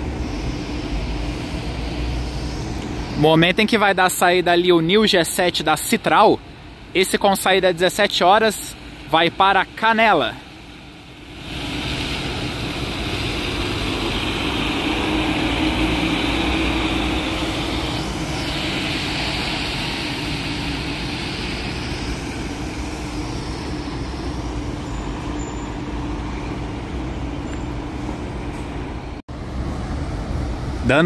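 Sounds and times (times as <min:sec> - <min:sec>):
tyres hissing on wet pavement: 0:00.0 - 0:26.0
bus diesel engine humming: 0:00.0 - 0:31.0.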